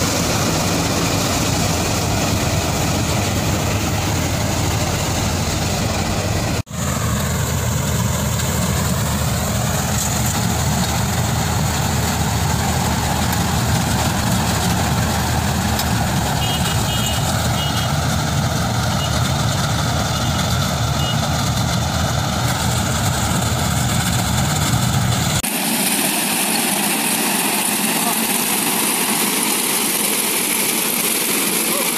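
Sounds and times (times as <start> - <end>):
harvester engine running: 0.0 - 31.9.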